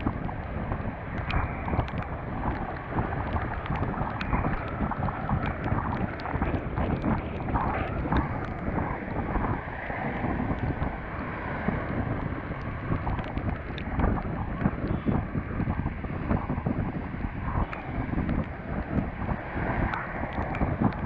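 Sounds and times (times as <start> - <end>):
sharp ticks: 0.0 - 21.0
wind buffeting microphone: 0.0 - 21.0.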